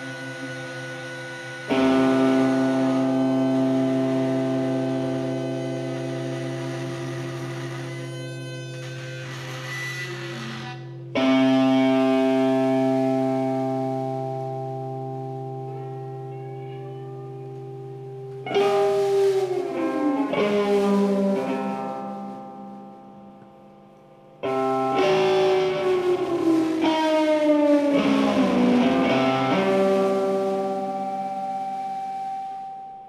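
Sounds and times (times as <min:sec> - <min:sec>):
electric guitar with sliding notes: 0:00.0 - 0:33.0.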